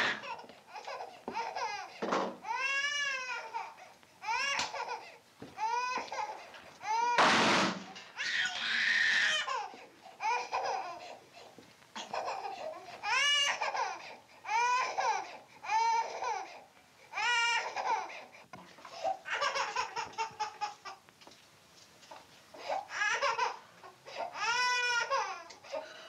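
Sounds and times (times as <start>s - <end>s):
toddler crying: 0.0s - 7.2s, 8.2s - 11.2s, 12.0s - 18.3s, 19.0s - 21.0s, 22.6s - 25.8s.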